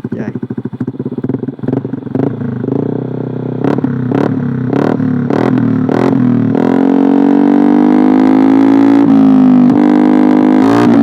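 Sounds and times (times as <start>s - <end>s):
scooter engine revving with pops: 0.0s - 11.0s.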